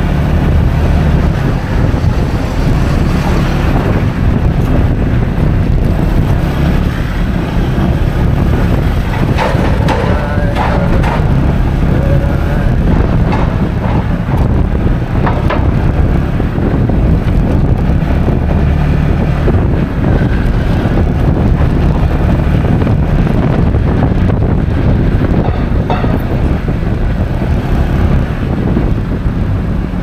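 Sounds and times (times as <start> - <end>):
scooter engine and road rumble: 0.0 - 30.0
wind rushing over microphone: 0.0 - 30.0.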